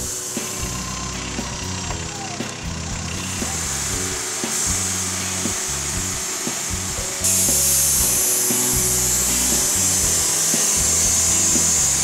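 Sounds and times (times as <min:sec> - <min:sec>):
background music with a beat: 0:00.0 - 0:12.0
band saw blade sawing wood: 0:00.0 - 0:12.0.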